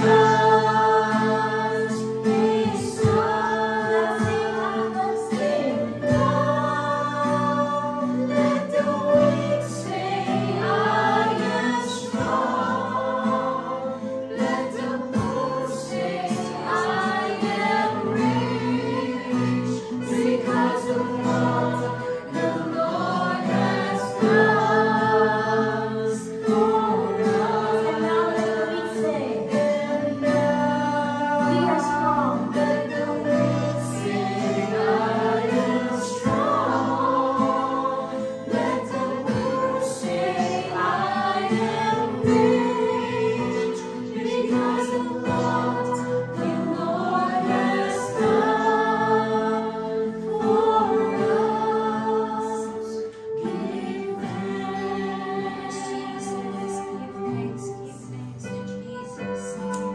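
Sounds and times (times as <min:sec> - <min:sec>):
low musical accompaniment: 0:00.0 - 0:59.9
voices singing: 0:00.0 - 0:59.9.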